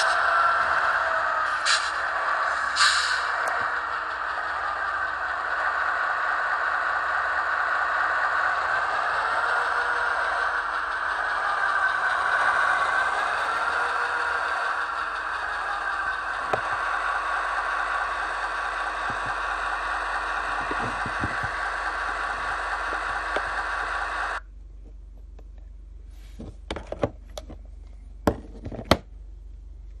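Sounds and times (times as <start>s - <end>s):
model locomotive mechanical drone: 0.0s - 24.5s.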